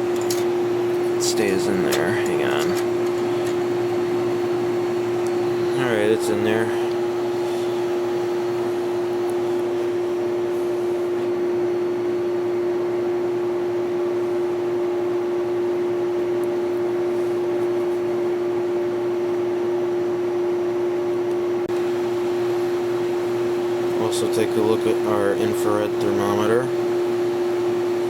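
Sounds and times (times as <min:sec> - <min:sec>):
air conditioner running: 0:00.0 - 0:28.0.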